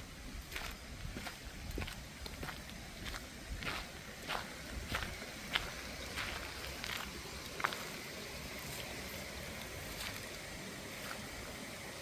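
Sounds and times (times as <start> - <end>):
footsteps walking: 0.0 - 11.7
background hiss: 0.0 - 12.0.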